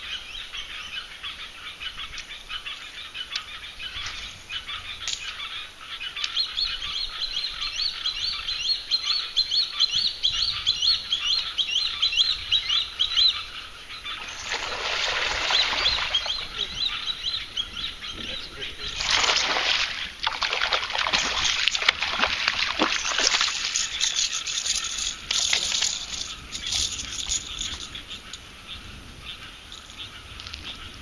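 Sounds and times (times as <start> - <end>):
chorus of animals chirping: 0.0 - 31.0.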